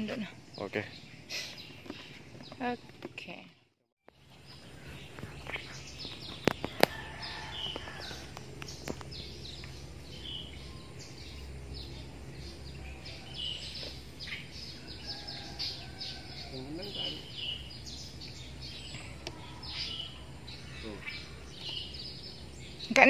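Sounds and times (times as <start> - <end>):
outdoor background hum: 0.0 - 23.0
small birds chirping: 0.0 - 23.0.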